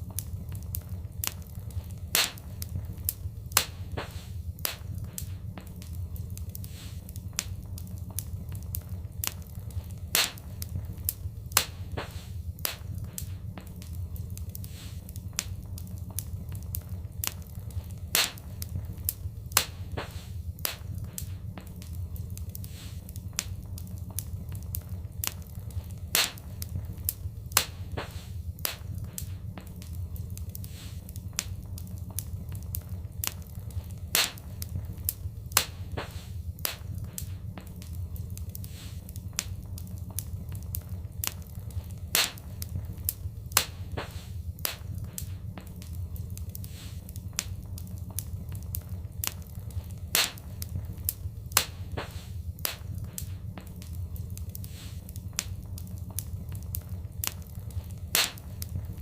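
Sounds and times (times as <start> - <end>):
fireplace fire crackling: 0.0 - 59.0
steady low rumble: 0.0 - 59.0.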